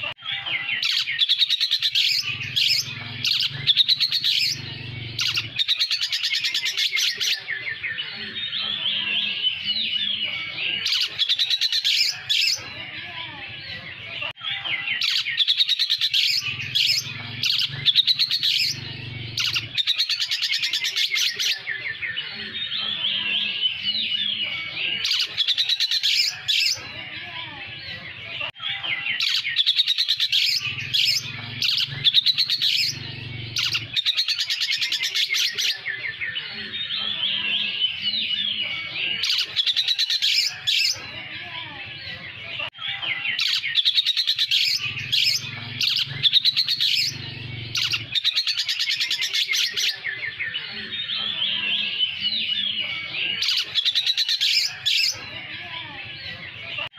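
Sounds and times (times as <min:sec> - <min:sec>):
bird singing chirps and trills: 0:00.0 - 0:56.9.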